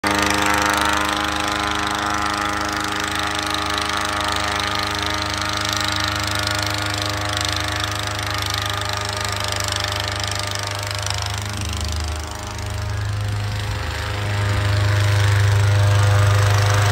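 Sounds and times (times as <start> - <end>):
diesel engine running under load: 0.0 - 16.9.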